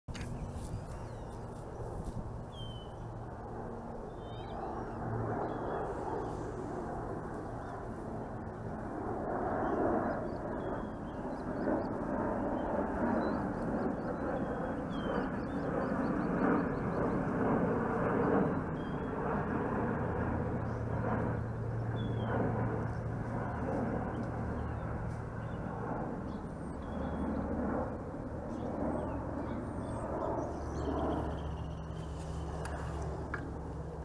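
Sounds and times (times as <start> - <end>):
faint hum: 0.1 - 34.0.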